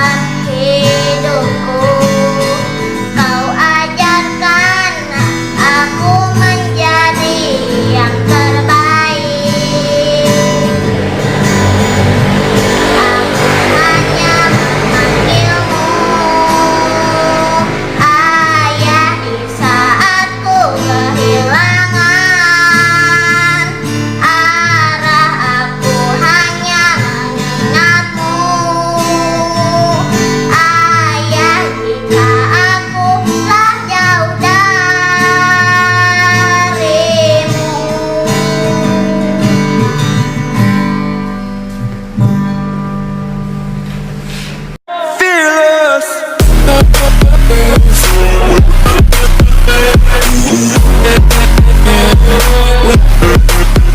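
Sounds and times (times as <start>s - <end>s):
child singing with vibrato: 0.0s - 40.3s, 44.9s - 53.9s
karaoke backing track: 0.0s - 53.9s.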